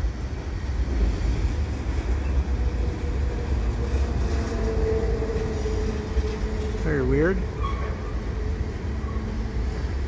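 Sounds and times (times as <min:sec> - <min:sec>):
freight train cars rumbling: 0:00.0 - 0:10.0.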